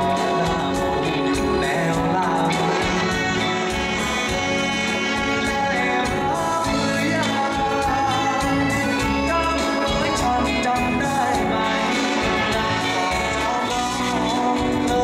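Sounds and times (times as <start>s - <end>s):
backing band playing: 0.0s - 15.0s
man singing: 0.0s - 15.0s.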